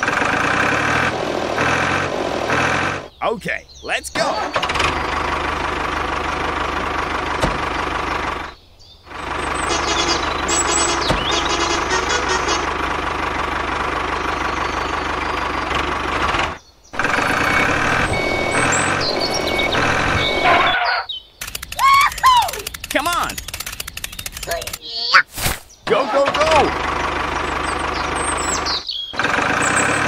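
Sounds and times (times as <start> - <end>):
tractor engine sound effect: 0.0 - 3.5, 4.2 - 30.0.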